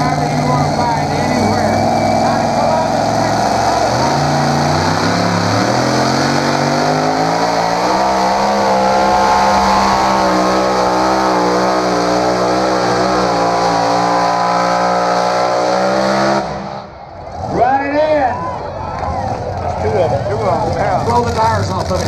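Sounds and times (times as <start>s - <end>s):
engine at full throttle: 0.0s - 17.7s.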